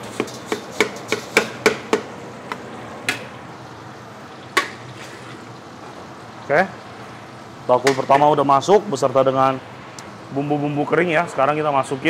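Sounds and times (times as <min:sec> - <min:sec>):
steady frying hiss: 0:00.0 - 0:12.0.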